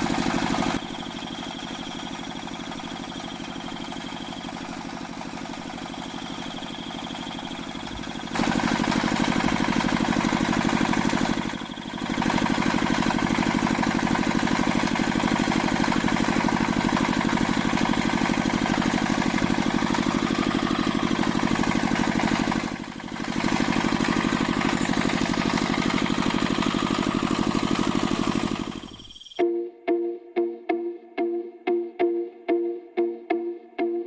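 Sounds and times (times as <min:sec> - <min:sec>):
engine running with fast pulse: 0:00.0 - 0:29.4.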